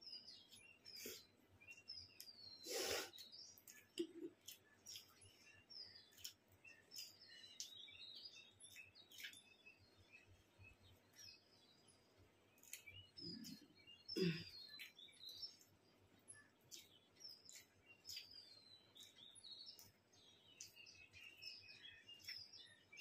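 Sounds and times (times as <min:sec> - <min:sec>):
people eating with fingers: 0:00.0 - 0:23.0
small birds chirping: 0:00.0 - 0:23.0.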